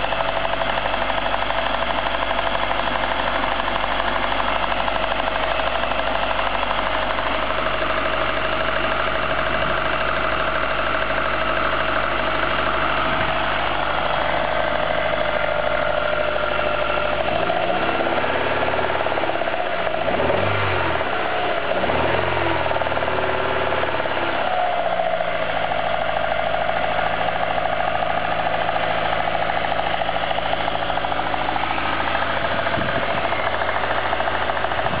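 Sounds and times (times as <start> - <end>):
car engine revving and idling: 0.0 - 35.0.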